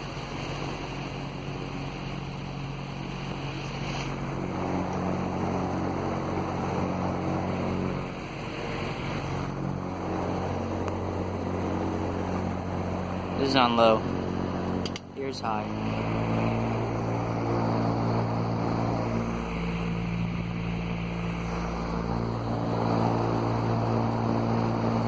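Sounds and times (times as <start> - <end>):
fan motor hum: 0.0 - 25.0
rush of air from fan blades: 0.0 - 25.0.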